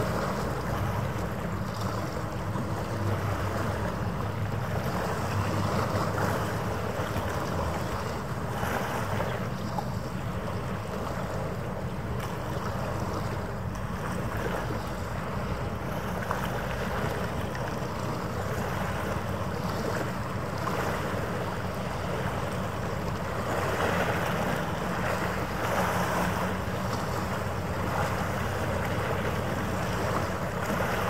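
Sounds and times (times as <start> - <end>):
low harbour rumble: 0.0 - 31.0.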